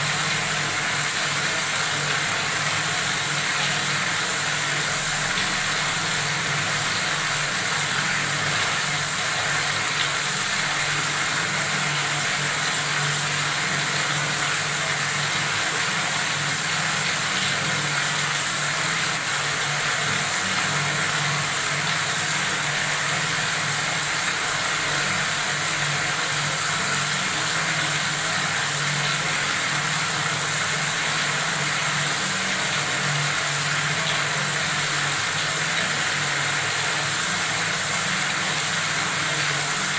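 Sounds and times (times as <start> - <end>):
water running from faucet: 0.0 - 39.9.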